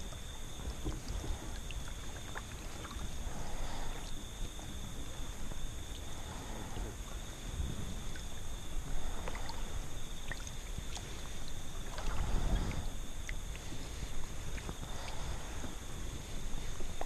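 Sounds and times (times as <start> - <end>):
faint high whine: 0.0 - 17.0
kayak paddle splashing water: 0.0 - 17.0.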